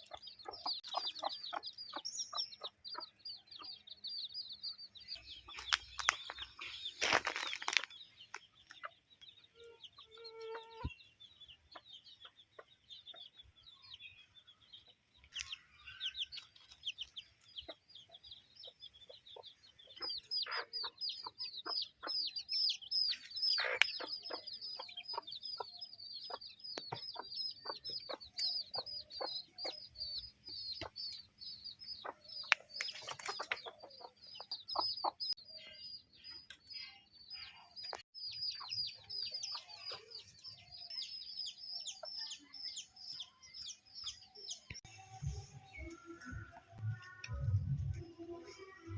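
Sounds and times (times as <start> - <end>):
chickens clucking: 0.0 - 36.8, 37.5 - 48.8.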